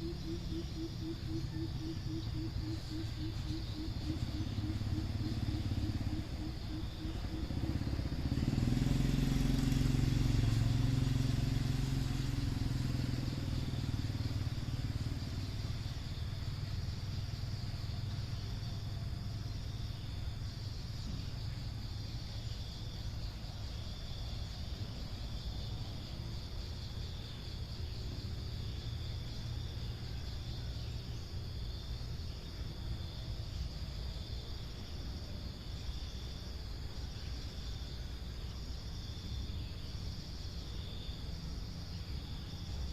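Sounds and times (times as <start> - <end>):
vehicle engine passing by: 0.0 - 38.6
insects chirring: 0.0 - 42.9.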